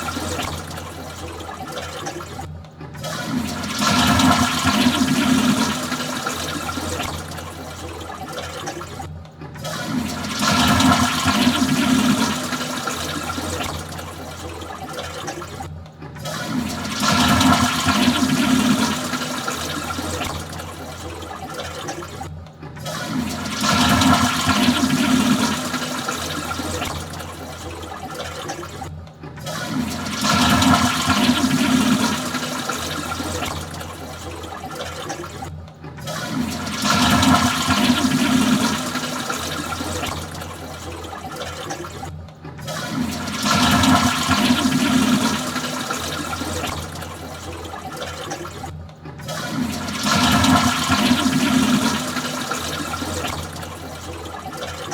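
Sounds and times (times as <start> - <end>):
toilet flushing: 0.0 - 54.9.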